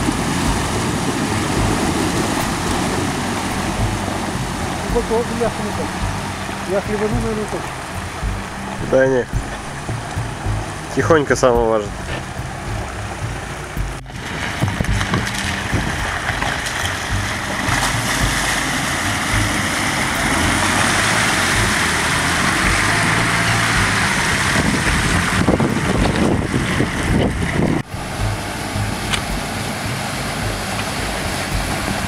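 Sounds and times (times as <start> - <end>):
car engine running: 0.0 - 32.0
water rushing and splashing: 0.0 - 32.0.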